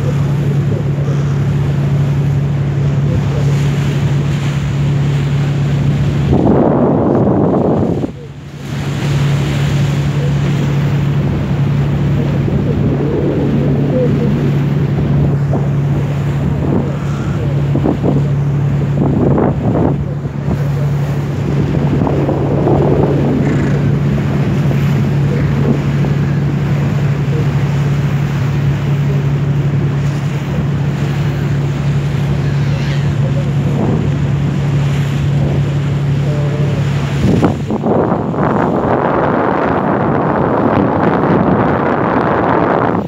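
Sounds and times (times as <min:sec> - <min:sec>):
boat engine droning: 0:00.0 - 0:43.0
water washing past hull: 0:00.0 - 0:43.0
wind buffeting microphone: 0:00.0 - 0:43.0.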